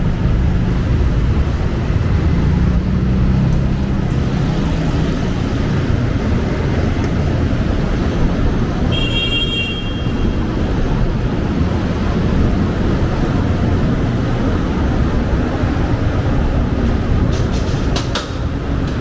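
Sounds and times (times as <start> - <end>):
low rumble of traffic: 0.0 - 19.0.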